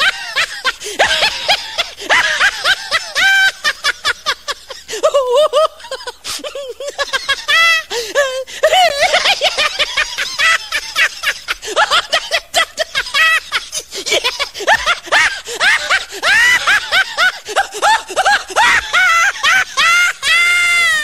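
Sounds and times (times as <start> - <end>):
person laughing high-pitched: 0.0 - 21.0.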